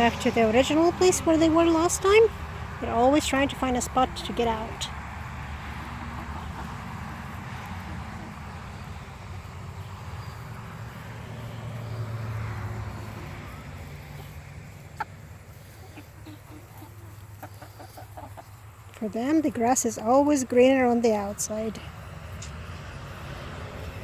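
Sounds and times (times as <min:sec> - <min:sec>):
passing vehicle rumble: 0:00.0 - 0:24.0.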